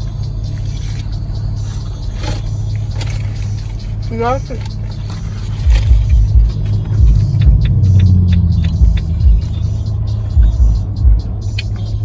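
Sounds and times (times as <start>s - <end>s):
low car cabin hum: 0.0s - 12.0s
music with deep bass thumps: 0.0s - 12.0s.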